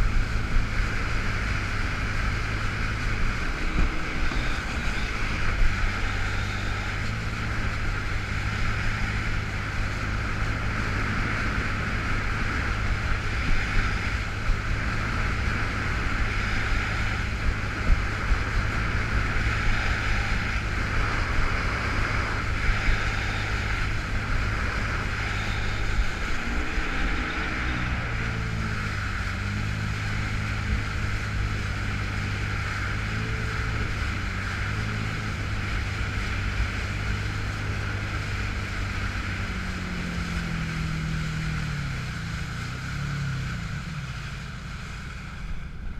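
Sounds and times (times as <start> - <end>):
jet ski engine running: 0.0 - 45.9
wind on microphone: 0.0 - 45.9
rushing water hiss: 0.1 - 45.6.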